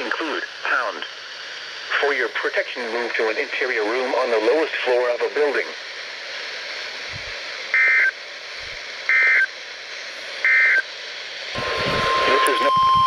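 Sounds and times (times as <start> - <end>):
steady hiss: 0.0 - 12.8.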